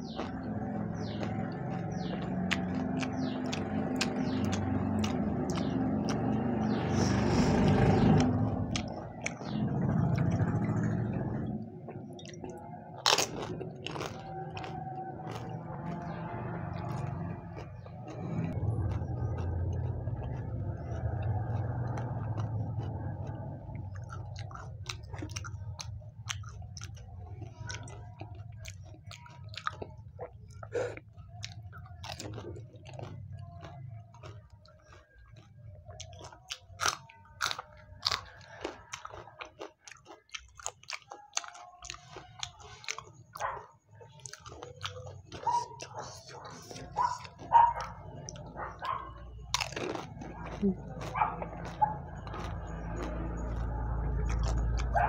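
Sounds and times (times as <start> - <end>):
crunchy chewing: 0.0 - 55.0
wet mouth clicks: 0.0 - 55.0.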